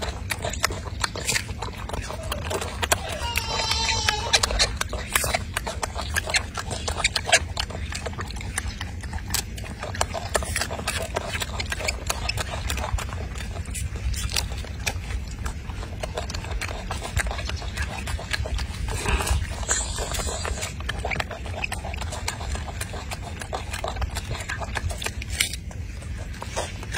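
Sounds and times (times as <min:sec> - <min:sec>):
monkey chewing fruit: 0:00.0 - 0:26.9
steady low rumble: 0:00.0 - 0:26.9.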